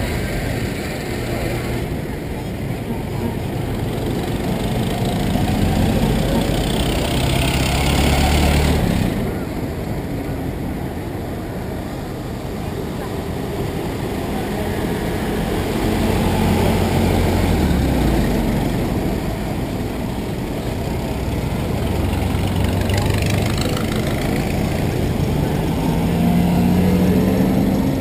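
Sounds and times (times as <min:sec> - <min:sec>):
old cars driving past: 0:00.0 - 0:28.0.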